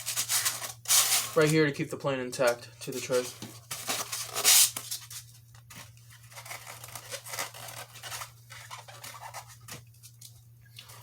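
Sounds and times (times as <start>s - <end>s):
plastic packaging rustling and scraping: 0.0s - 1.7s, 2.4s - 11.0s.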